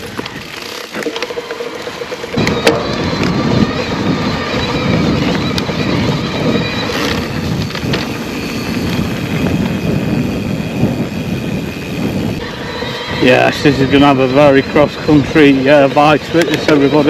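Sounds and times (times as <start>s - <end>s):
bike tyres on gravel: 0.0s - 17.0s
wind buffeting microphone: 1.3s - 17.0s.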